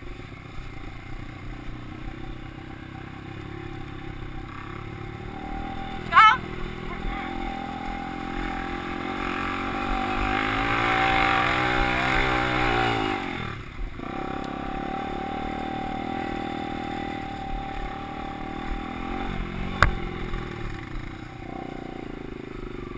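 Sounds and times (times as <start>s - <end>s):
motocross bike engine revving: 0.0s - 22.9s.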